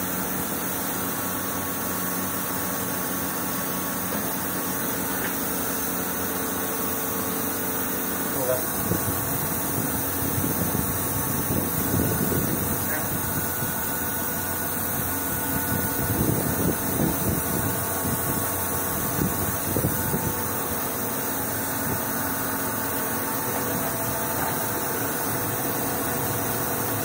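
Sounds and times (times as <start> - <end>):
industrial machinery humming: 0.0 - 27.0.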